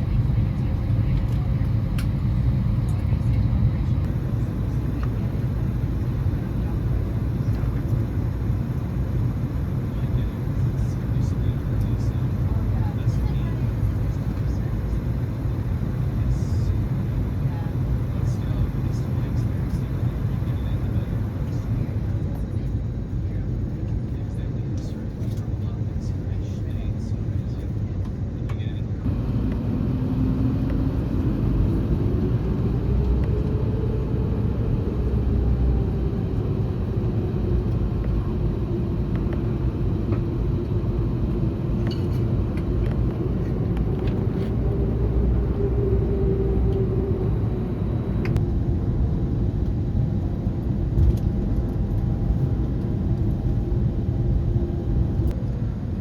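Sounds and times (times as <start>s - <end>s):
airplane cabin rumble: 0.0s - 56.0s
jet engine hum: 0.0s - 56.0s.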